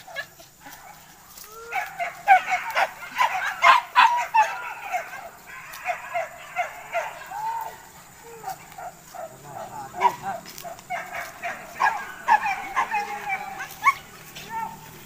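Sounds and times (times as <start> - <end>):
dogs barking and yelping: 0.0 - 15.0.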